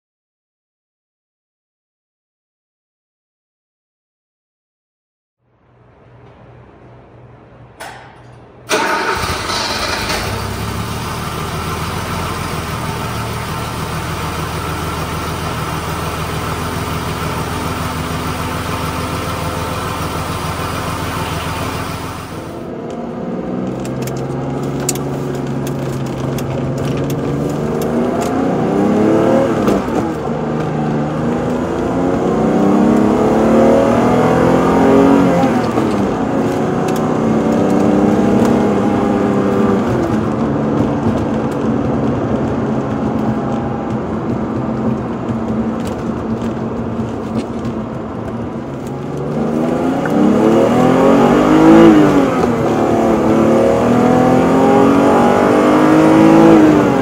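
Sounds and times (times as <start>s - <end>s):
car engine starting and idling: 8.6s - 57.0s
engine accelerating from inside cabin: 8.7s - 57.0s.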